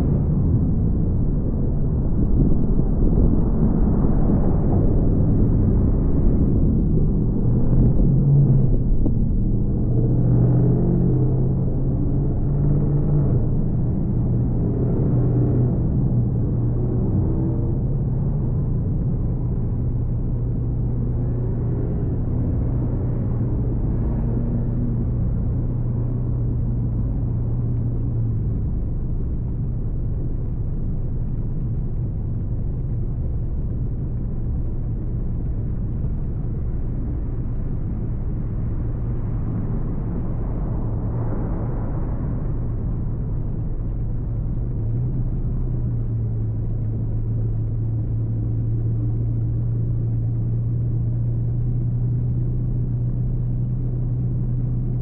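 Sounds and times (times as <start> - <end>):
car road and engine rumble: 0.0 - 55.0
low hum: 0.0 - 55.0.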